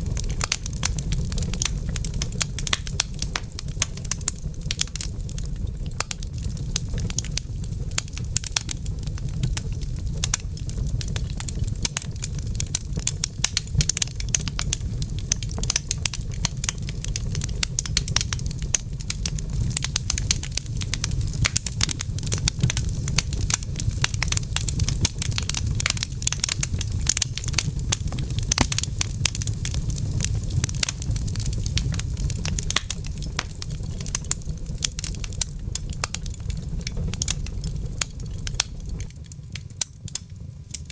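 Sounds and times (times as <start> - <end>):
fire crackling: 0.0 - 40.9.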